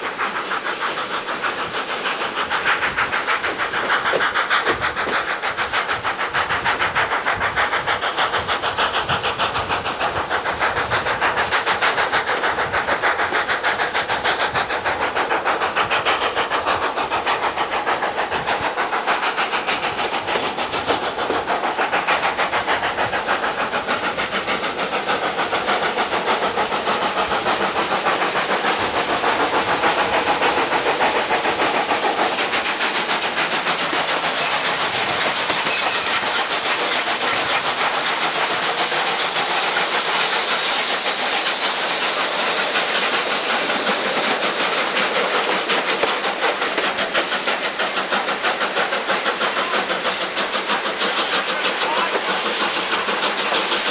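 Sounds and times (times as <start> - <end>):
steam hissing: 0.0 - 53.9
steam locomotive chuffing: 0.0 - 53.9.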